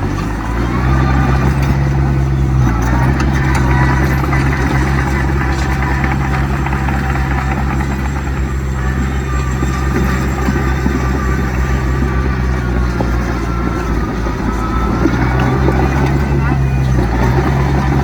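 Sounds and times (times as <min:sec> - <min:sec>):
diesel machinery engine drone: 0:00.0 - 0:18.0.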